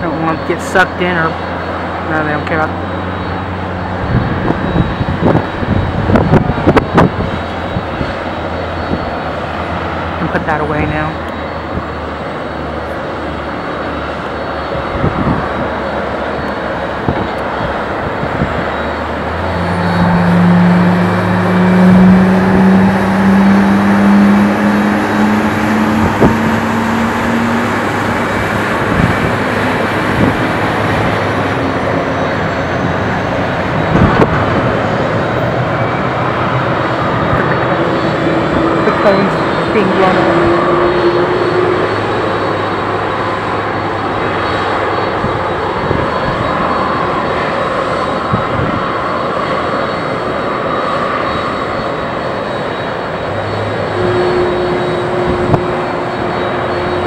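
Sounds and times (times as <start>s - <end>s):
jet engine spooling up: 0.0s - 57.0s
wind on microphone: 1.1s - 57.0s.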